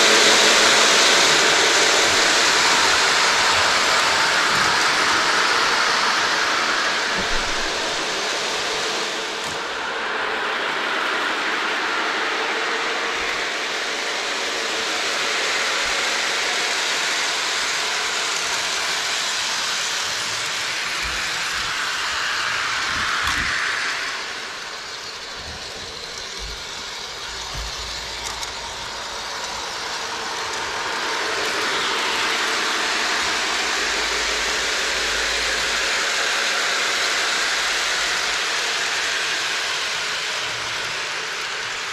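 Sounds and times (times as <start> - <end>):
model train running on track: 0.0 - 41.9.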